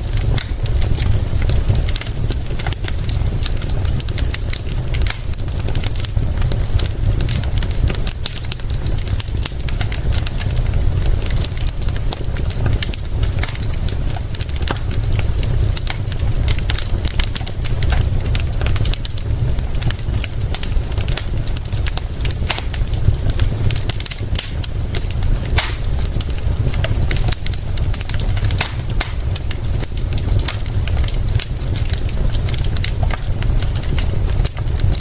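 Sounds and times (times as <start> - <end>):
fire crackling and popping: 0.0 - 35.0
steady rain: 0.0 - 35.0.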